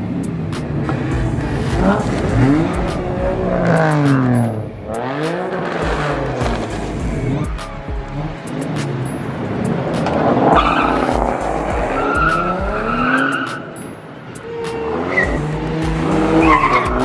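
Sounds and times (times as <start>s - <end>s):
car engine revving: 0.0s - 17.0s
tires squealing and skidding: 0.0s - 17.0s.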